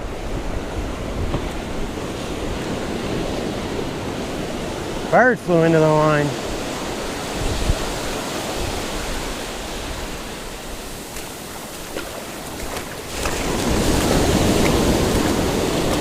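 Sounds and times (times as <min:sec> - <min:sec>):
ocean surf washing onto beach: 0:00.0 - 0:16.0.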